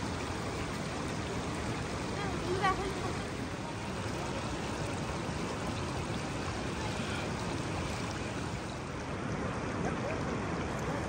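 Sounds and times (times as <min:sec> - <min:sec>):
river water rushing over rocks: 0:00.0 - 0:11.0.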